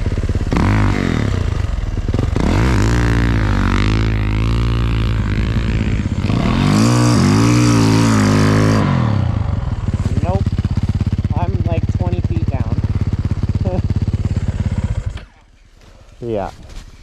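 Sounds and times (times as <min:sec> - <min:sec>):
snow bike engine revving: 0:00.0 - 0:15.4.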